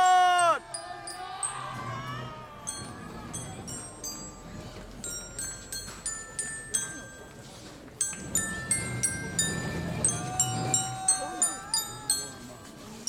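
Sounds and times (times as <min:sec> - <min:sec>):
bell-like metal percussion: 0:00.0 - 0:13.0.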